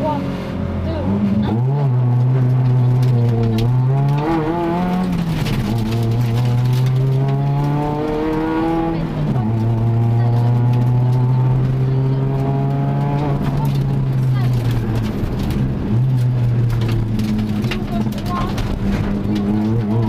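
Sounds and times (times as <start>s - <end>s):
car engine accelerating through gears: 0.0s - 20.0s.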